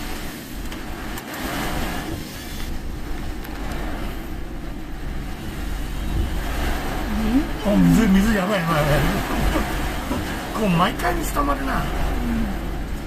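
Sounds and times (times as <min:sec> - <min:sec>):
car engine and road rumble: 0:00.0 - 0:13.0
heavy rain rushing: 0:00.0 - 0:13.0
water under tyres: 0:00.0 - 0:13.0.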